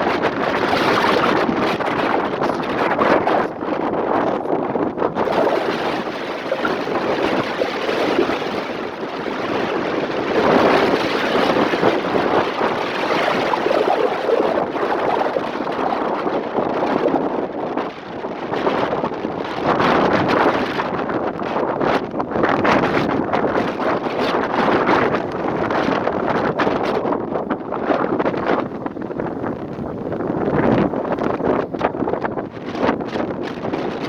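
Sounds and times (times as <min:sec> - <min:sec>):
rough sea waves: 0:00.0 - 0:34.0
wind buffeting microphone: 0:00.0 - 0:34.0.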